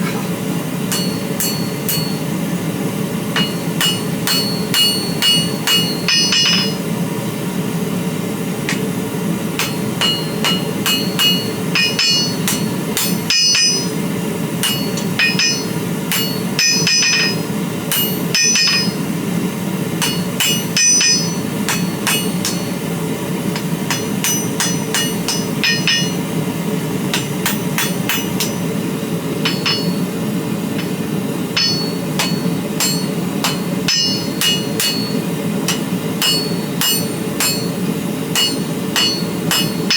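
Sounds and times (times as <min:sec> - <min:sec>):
hammer striking steel on anvil: 0:00.8 - 0:02.4, 0:03.3 - 0:06.9, 0:08.6 - 0:09.0, 0:09.6 - 0:19.2, 0:20.0 - 0:39.9.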